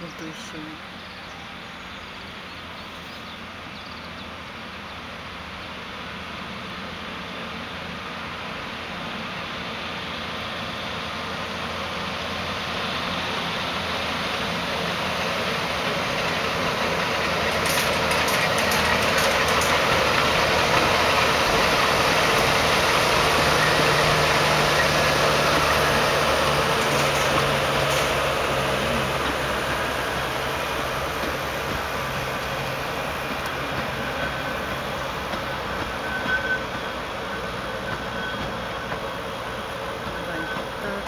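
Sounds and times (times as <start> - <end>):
train rumbling and rolling: 0.0 - 41.0.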